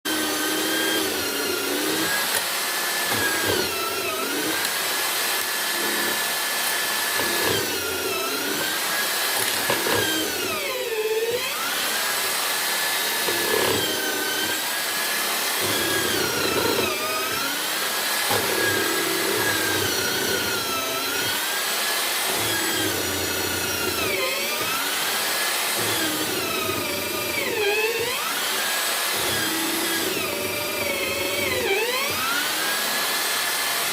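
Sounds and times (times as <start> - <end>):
electric motor whining: 0.1 - 33.9.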